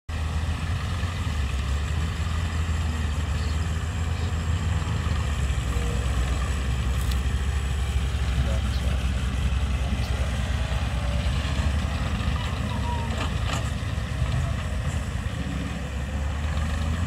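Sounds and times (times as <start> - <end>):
tractor diesel engine running: 0.1 - 17.0.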